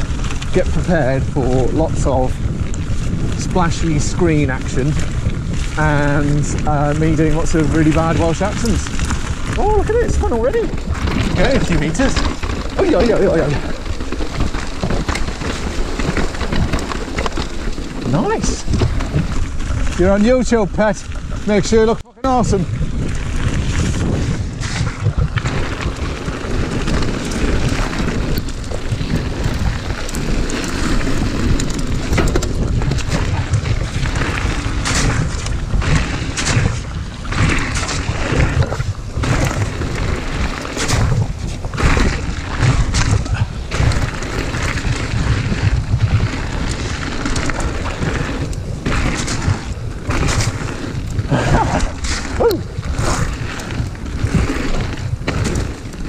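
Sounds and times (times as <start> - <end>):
bike rattling knocks: 0.0 - 21.6, 22.3 - 56.0
tyres crunching over stones: 0.0 - 56.0
wind buffeting microphone: 0.0 - 56.0.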